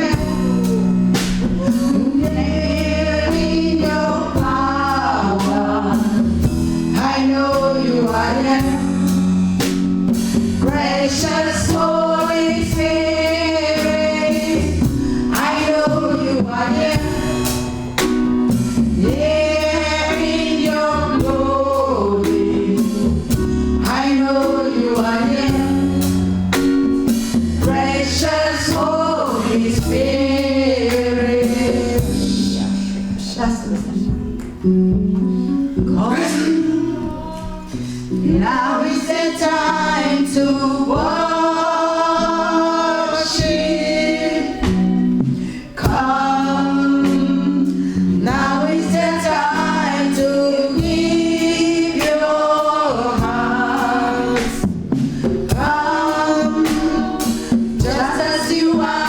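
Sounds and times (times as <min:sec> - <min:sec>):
choir singing: 0:00.0 - 0:09.4, 0:10.6 - 0:17.9, 0:18.9 - 0:26.3, 0:27.6 - 0:33.7, 0:36.0 - 0:59.0
bass: 0:00.0 - 0:59.0
drum kit beat: 0:00.0 - 0:59.0.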